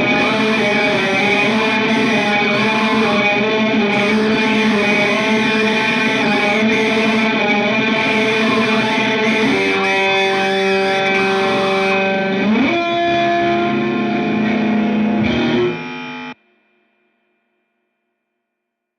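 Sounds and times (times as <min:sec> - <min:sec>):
distorted electric guitar: 0:00.0 - 0:16.4.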